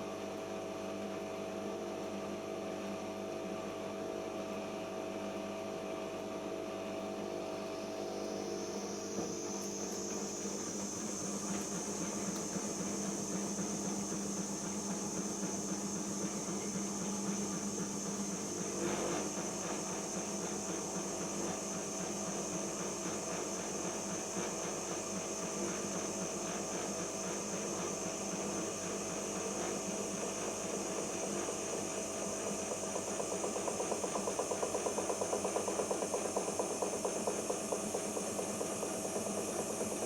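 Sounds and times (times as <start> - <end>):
washing machine motor whine: 0.0 - 40.0.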